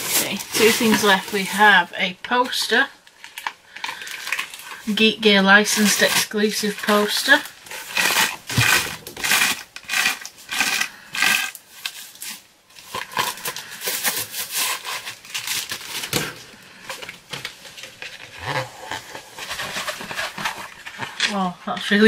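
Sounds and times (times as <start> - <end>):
paper rustling and crinkling: 0.0 - 22.0.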